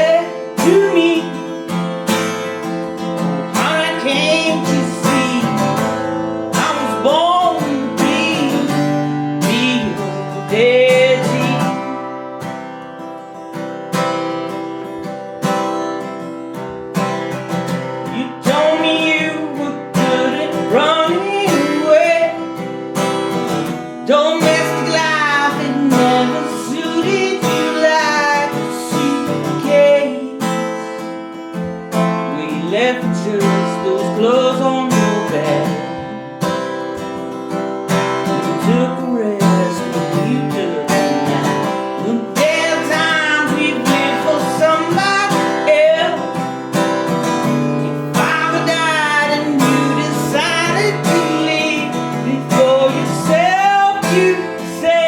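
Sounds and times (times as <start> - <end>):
person singing: 0.0 - 13.1, 16.0 - 55.0
acoustic guitar strumming: 0.0 - 55.0.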